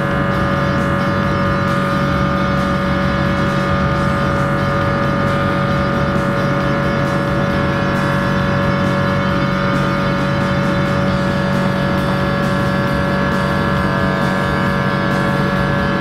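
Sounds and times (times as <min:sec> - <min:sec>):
jet engine roar in cabin: 0:00.0 - 0:16.0
jet engine whine: 0:00.0 - 0:16.0.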